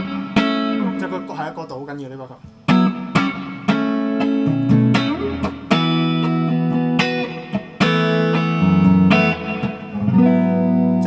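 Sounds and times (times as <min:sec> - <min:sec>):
electric guitar playing: 0:00.0 - 0:11.0.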